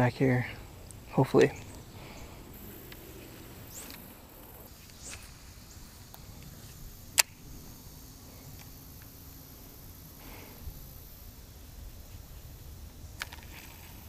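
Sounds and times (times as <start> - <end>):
faint lakeside background: 0.0 - 14.0.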